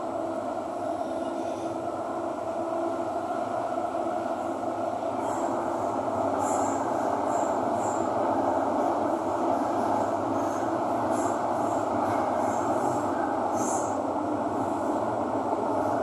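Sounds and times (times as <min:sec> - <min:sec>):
metro train rumbling: 0:00.0 - 0:16.0.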